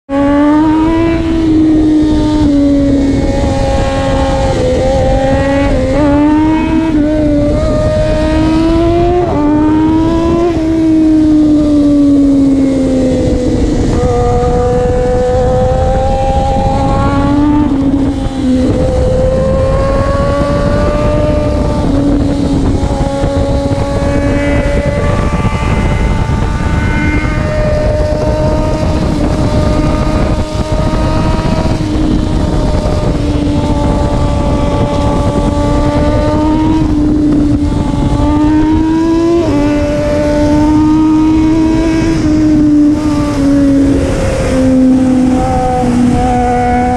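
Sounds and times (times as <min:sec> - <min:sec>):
motorcycle engine revving loudly: 0:00.0 - 0:46.9.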